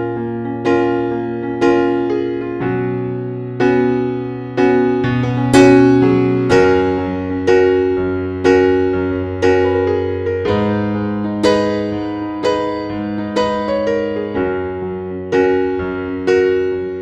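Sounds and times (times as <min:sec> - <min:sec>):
slow piano-like keyboard chords: 0:00.0 - 0:17.0.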